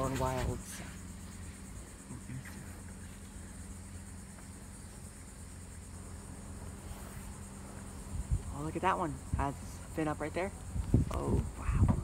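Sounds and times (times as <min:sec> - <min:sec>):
high insect drone: 0:00.0 - 0:12.0
low steady hum: 0:00.0 - 0:12.0.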